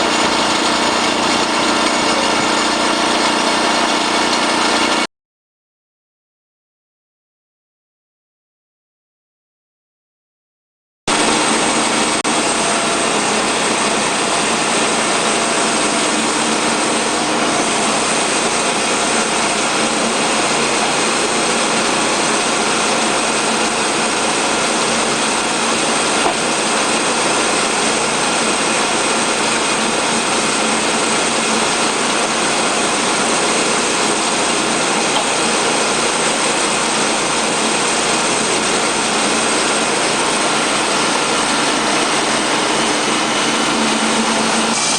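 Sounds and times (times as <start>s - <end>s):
band sawmill running: 0.0s - 5.1s, 11.1s - 44.9s.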